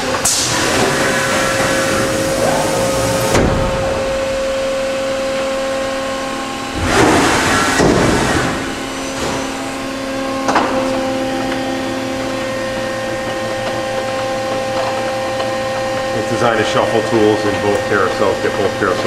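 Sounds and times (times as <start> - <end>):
machine humming with held tones: 0.0 - 19.0.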